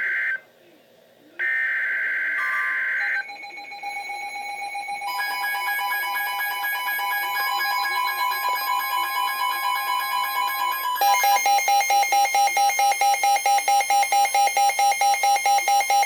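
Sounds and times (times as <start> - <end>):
rapidly pulsing beeping alarm: 1.4 - 16.0.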